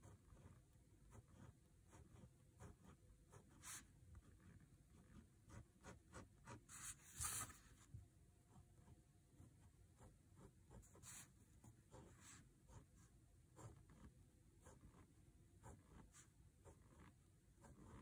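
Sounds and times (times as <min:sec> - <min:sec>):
pen scratching on paper: 0:00.0 - 0:07.9, 0:08.5 - 0:18.0.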